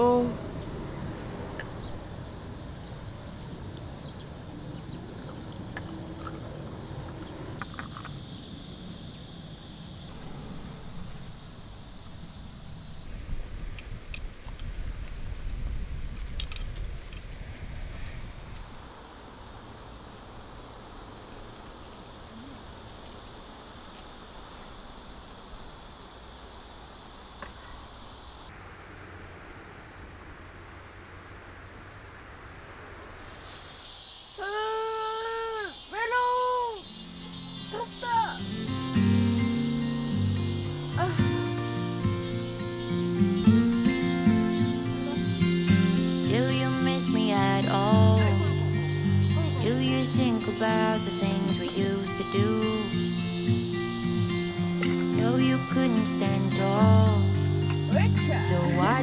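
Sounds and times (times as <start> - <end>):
high insect drone: 0.0 - 59.0
high steady hiss: 0.0 - 59.0
low outdoor noise: 0.0 - 59.0.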